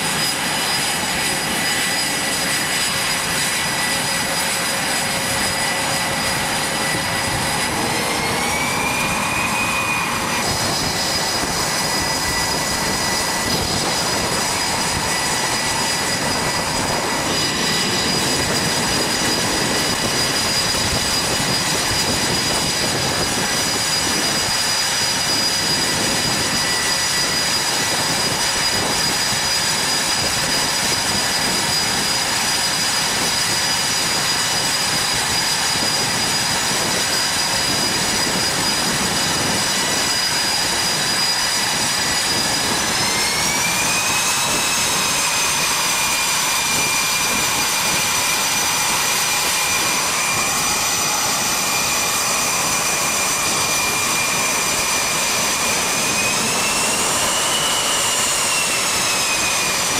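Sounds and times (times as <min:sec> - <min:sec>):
high engine whine: 0:00.0 - 0:59.9
jet engines running: 0:00.0 - 0:59.9.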